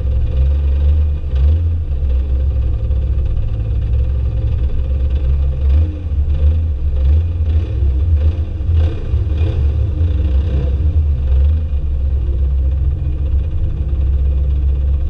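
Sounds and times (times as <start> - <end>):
car engines revving: 0.0 - 15.0
heavy low rumble: 0.0 - 15.0.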